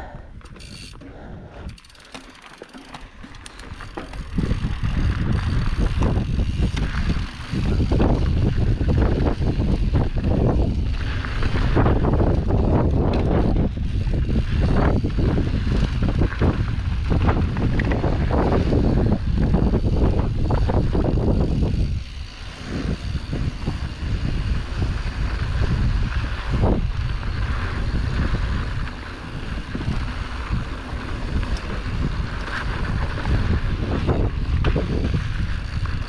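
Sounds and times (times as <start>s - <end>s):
bike rattling over bumps: 0.0s - 36.0s
tyres rumbling over dirt: 1.8s - 36.0s
wind buffeting microphone: 3.6s - 36.0s.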